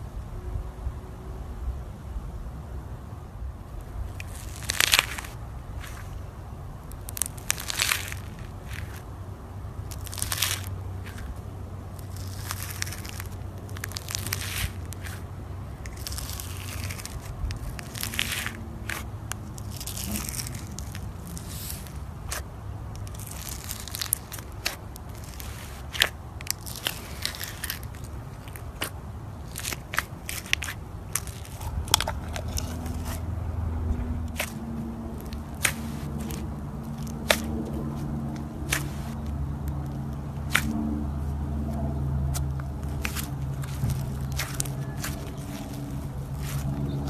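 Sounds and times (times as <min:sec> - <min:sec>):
slime crackling and popping: 0:04.1 - 0:06.1, 0:06.8 - 0:09.1, 0:09.8 - 0:15.2, 0:15.8 - 0:33.2, 0:34.2 - 0:40.9, 0:42.3 - 0:47.0.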